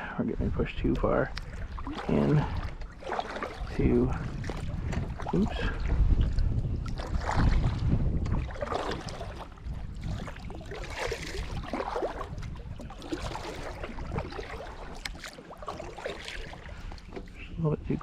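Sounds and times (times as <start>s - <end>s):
water splashing around kayak: 0.4s - 18.0s.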